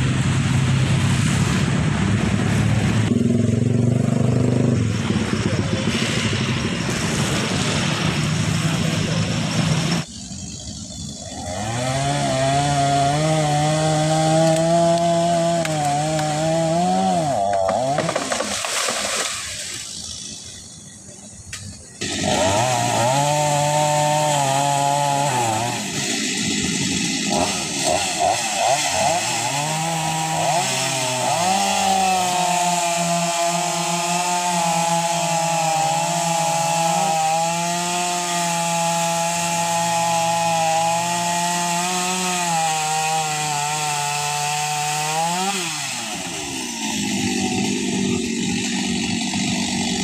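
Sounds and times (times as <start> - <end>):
chainsaw cutting: 2.4 - 50.0.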